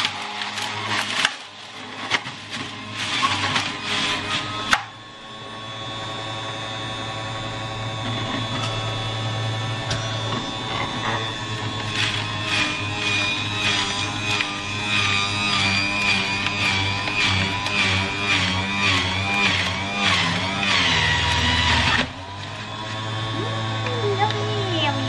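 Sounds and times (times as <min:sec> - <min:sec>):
juicer motor whirring and grinding: 0:00.0 - 0:25.0.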